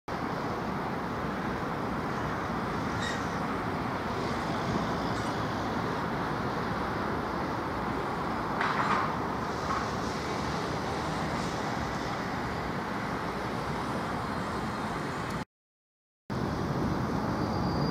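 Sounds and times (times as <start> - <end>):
traffic rumble: 0.1 - 15.4, 16.3 - 17.9
tram approaching: 0.1 - 15.4, 16.4 - 17.9.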